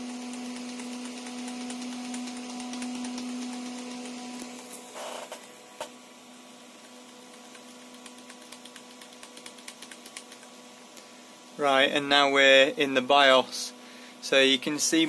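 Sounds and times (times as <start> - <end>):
computer hum: 0.0 - 13.4.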